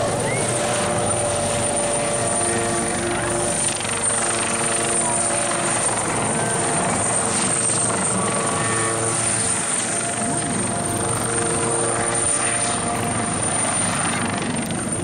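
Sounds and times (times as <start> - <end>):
helicopter rotor chop: 0.0 - 15.0
high turbine whine: 0.0 - 15.0.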